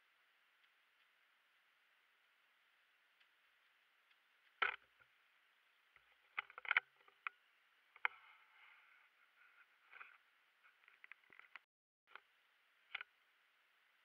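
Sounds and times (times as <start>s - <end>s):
faint rustle: 0.0s - 12.3s.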